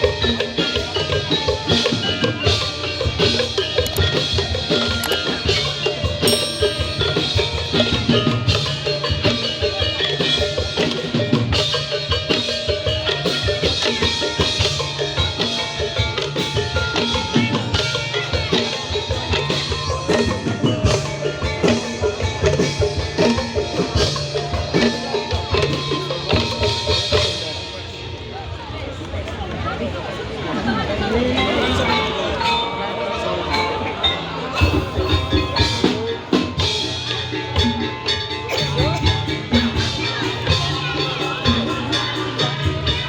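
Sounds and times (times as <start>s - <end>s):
bamboo and mallet percussion ensemble: 0.0s - 43.0s
drums: 0.0s - 43.0s.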